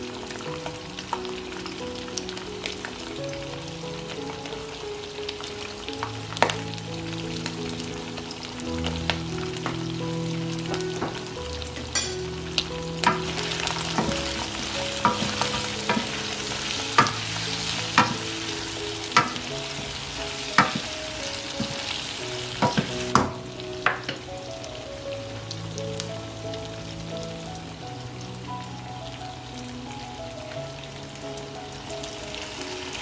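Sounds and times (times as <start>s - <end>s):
chicken sizzling in oil: 0.0s - 29.9s, 30.6s - 33.0s.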